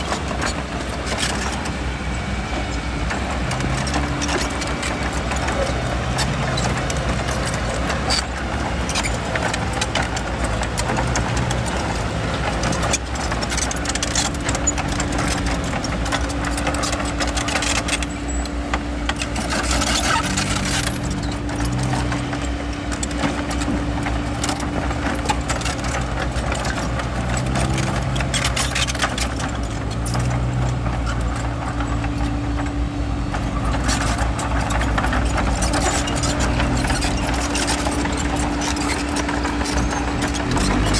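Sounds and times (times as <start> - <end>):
diesel engine under load: 0.0 - 40.9
steel tracks clanking: 0.0 - 40.9.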